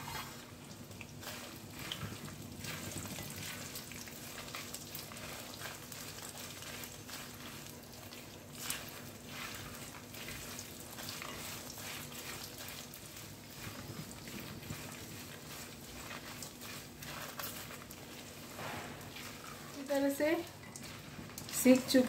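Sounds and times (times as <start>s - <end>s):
wooden spatula scraping pan: 0.0s - 0.4s, 1.2s - 22.0s
nuts and leaves frying in oil: 0.0s - 22.0s.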